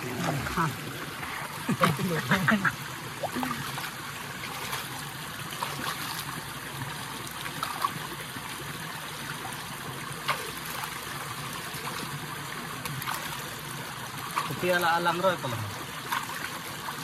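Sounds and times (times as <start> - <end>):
stream trickling over rock: 0.0 - 17.0.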